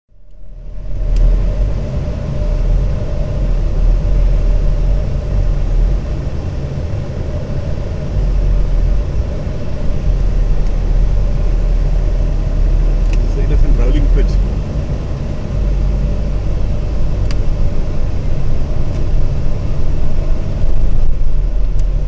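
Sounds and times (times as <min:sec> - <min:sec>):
car engine and road rumble: 0:00.1 - 0:22.0.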